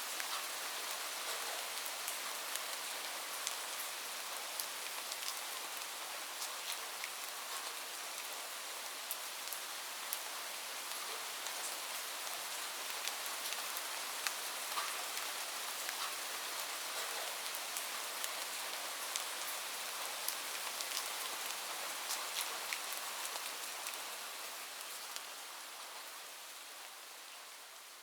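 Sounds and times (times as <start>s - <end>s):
light rain hiss: 0.0s - 28.0s.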